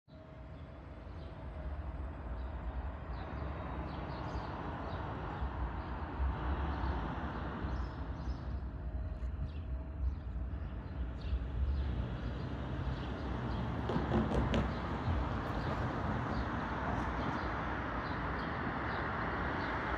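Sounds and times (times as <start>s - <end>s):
low city rumble: 0.1s - 19.9s.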